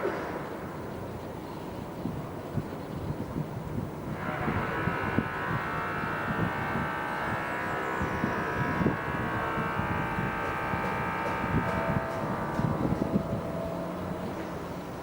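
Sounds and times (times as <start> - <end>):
warning siren steady tone: 2.5 - 15.0.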